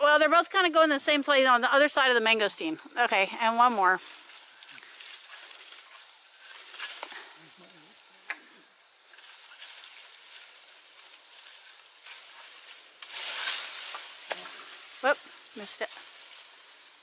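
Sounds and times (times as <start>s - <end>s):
high-pitched insect drone: 0.1s - 17.0s
leaves rustling: 1.9s - 17.0s.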